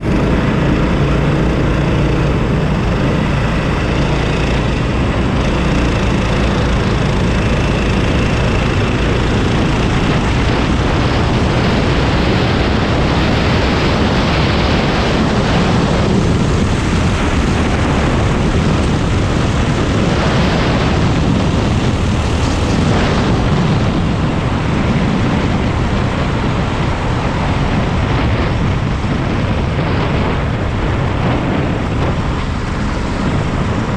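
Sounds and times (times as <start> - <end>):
kart engine droning: 0.0 - 33.9.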